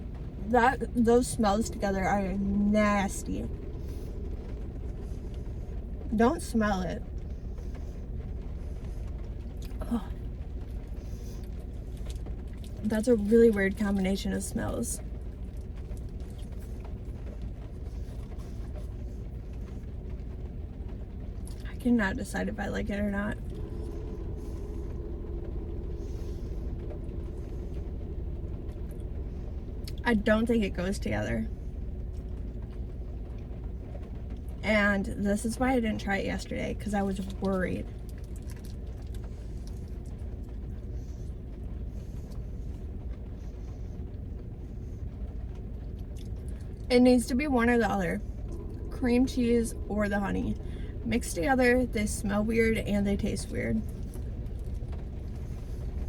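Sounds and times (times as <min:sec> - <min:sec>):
faint steady hum: 0:00.0 - 0:56.0
low rumble inside car: 0:00.0 - 0:56.0
rain ticking on car: 0:00.0 - 0:56.0.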